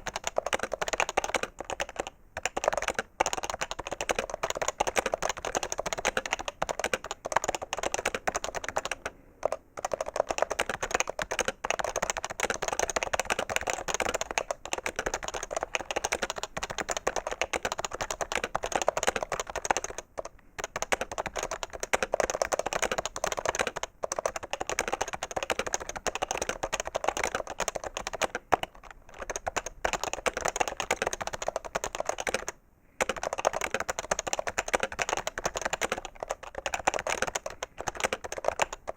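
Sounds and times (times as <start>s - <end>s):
fast keyboard typing: 0.0s - 38.9s.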